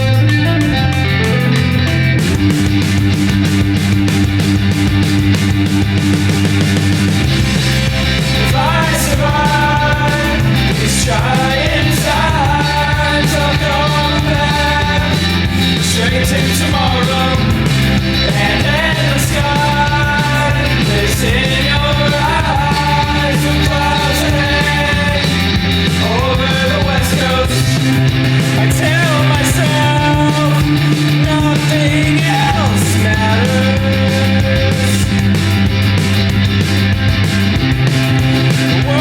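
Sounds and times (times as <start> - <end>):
rock song with singing: 0.0 - 39.0.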